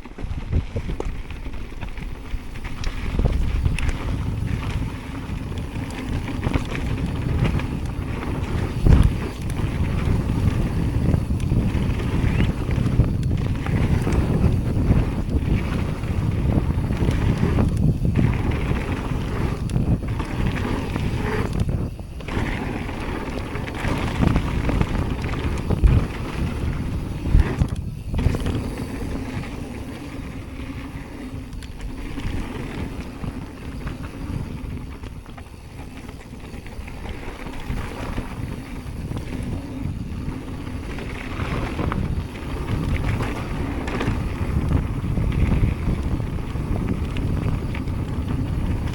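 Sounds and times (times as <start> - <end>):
bike tyres rumbling and rattling: 0.0 - 48.9
wind buffeting microphone: 0.0 - 48.9.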